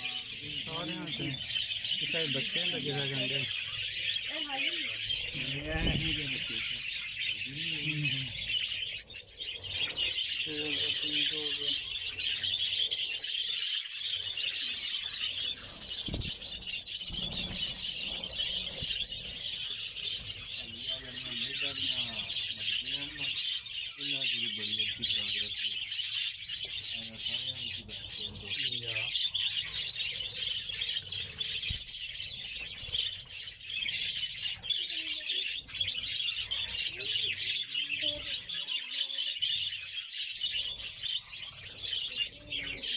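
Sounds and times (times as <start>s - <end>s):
budgerigars chattering: 0.0s - 42.9s.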